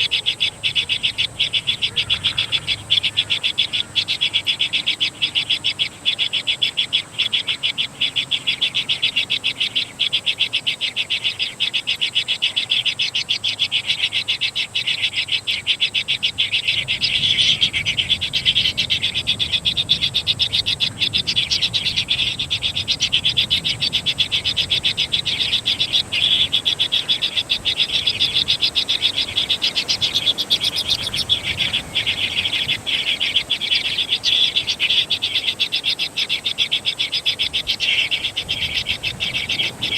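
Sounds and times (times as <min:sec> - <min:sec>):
chorus of pulsing animal calls: 0:00.0 - 0:39.9.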